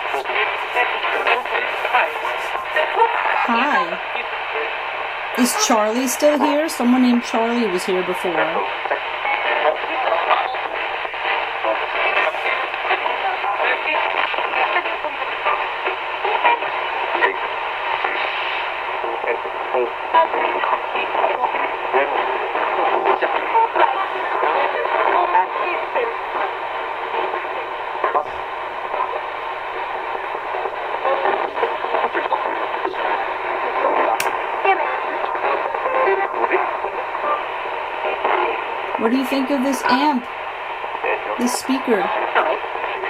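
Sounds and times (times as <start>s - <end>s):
choppy snippets of radio music: 0.0s - 43.0s
choppy snippets of radio voices: 0.0s - 43.0s
radio static hiss: 0.0s - 43.0s.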